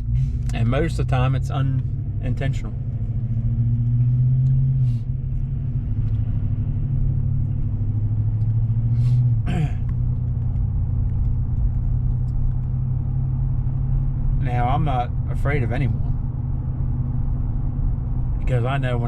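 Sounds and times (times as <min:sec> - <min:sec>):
engine and road drone: 0:00.0 - 0:19.0.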